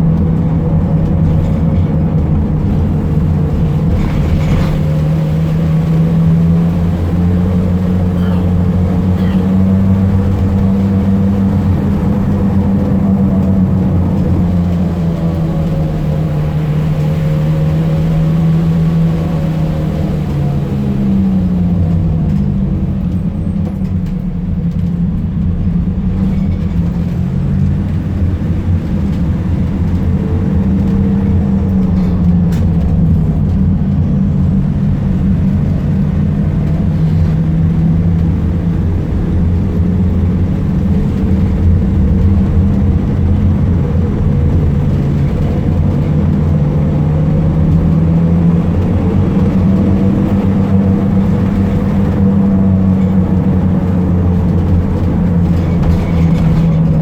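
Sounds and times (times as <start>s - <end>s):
diesel engine running while driving: 0.0s - 57.0s
road rumble: 0.0s - 57.0s.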